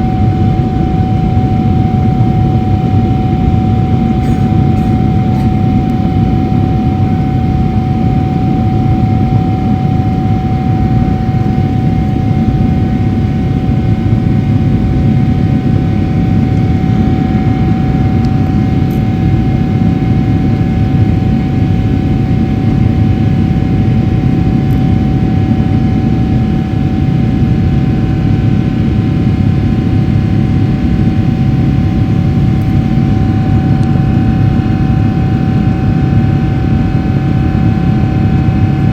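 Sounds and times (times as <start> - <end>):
constant hum: 0.0 - 38.9
jet engine roar in cabin: 0.0 - 38.9.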